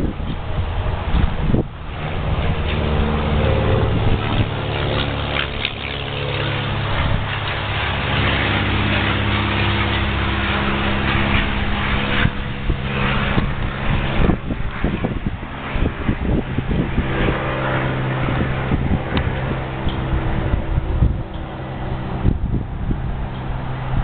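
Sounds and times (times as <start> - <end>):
combustion engine humming: 0.0 - 24.0.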